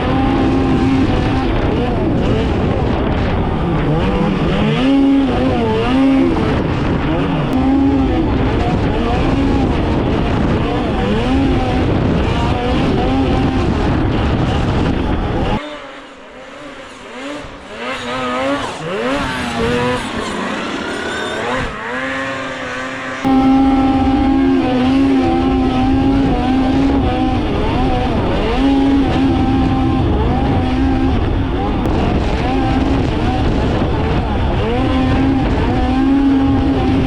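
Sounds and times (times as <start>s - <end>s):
snowmobile engine revving: 0.0s - 37.0s
wind rumble: 0.0s - 37.0s.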